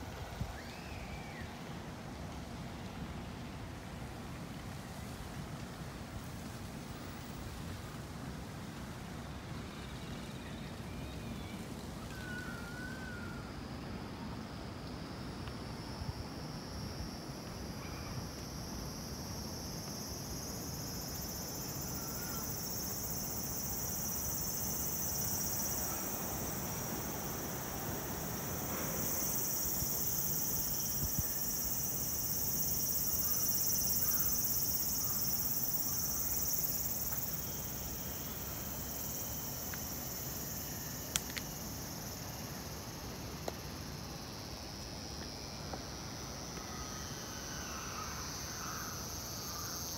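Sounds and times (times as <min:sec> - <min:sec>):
cicadas buzzing: 0:09.6 - 0:49.9.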